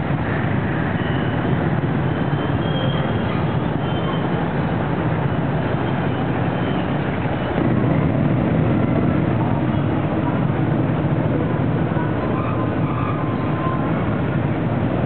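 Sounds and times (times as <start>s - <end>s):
cars passing: 0.0s - 15.0s
motorbikes and scooters passing: 0.0s - 15.0s.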